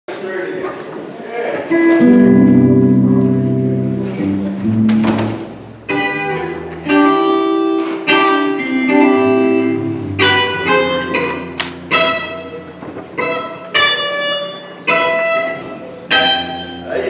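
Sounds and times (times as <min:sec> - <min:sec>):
instrumental music chords: 0:01.7 - 0:17.0.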